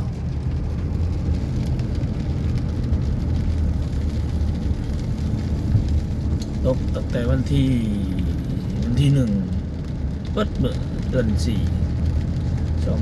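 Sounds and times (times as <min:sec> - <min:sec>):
faint rain ticks: 0:00.0 - 0:13.0.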